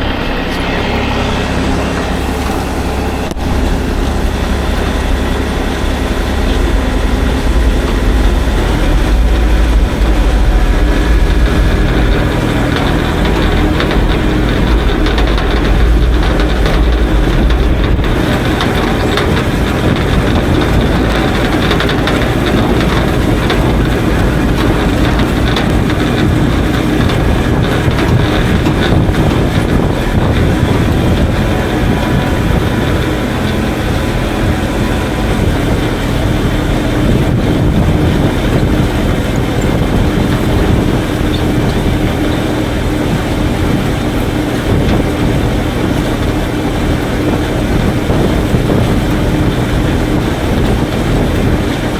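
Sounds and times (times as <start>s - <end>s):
farm machinery engine droning: 0.0s - 51.9s.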